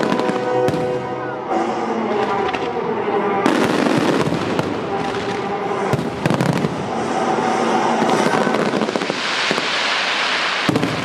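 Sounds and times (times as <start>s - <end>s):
crackling hiss of firework trails: 0.0s - 11.0s.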